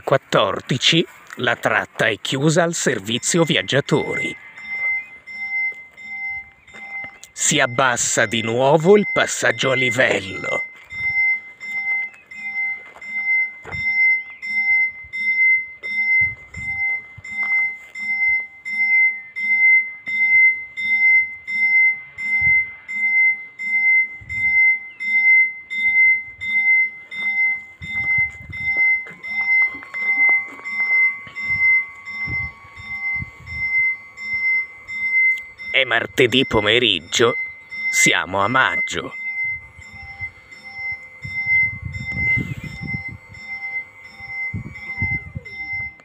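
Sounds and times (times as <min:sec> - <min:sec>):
barrier motor whine: 0:00.0 - 0:46.0
level-crossing warning bell: 0:00.0 - 0:46.0.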